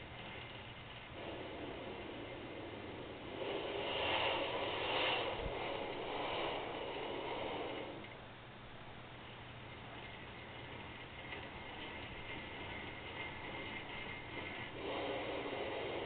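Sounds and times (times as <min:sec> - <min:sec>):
bicycle hub and chain whooshing: 0:00.0 - 0:08.2, 0:09.7 - 0:16.0.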